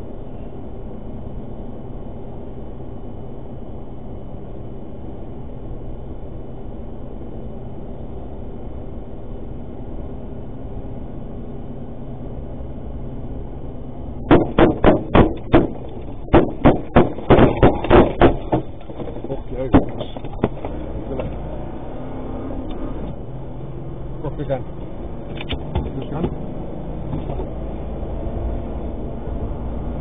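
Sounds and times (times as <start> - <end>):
road and engine noise: 0.0 - 30.0.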